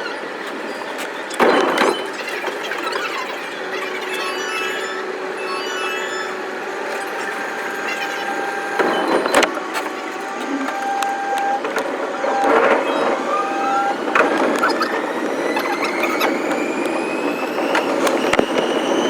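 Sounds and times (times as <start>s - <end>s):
sped-up electric train running: 0.0s - 19.0s
rising whines: 0.1s - 19.0s.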